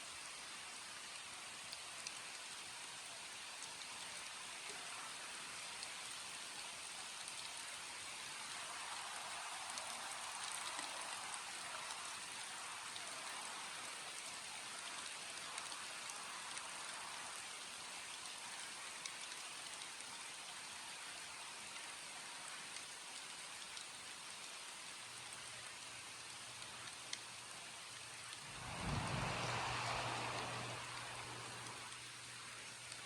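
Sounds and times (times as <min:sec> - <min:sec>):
rain pattering on surfaces: 0:00.0 - 0:33.0.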